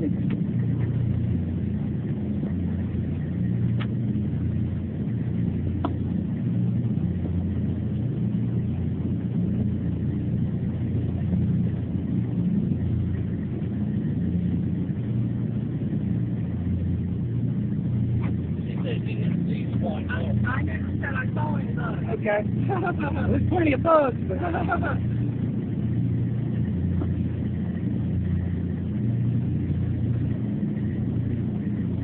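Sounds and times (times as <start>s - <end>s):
low engine rumble: 0.0s - 32.0s.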